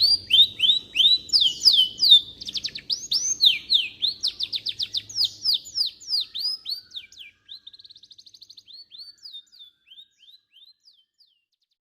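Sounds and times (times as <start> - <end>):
canary singing trills: 0.0 - 11.8.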